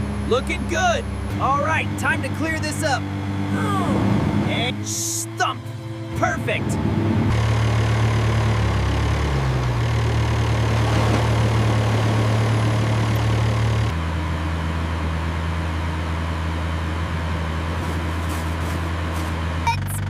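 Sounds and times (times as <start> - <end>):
heavy machine engine running: 0.0 - 20.0.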